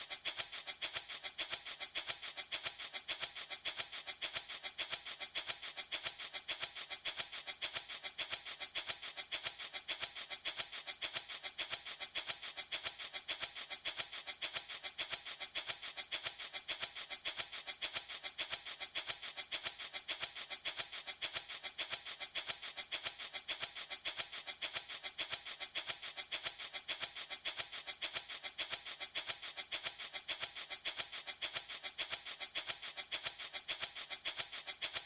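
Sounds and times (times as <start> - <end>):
wooden baby rattle shaken: 0.0 - 35.0.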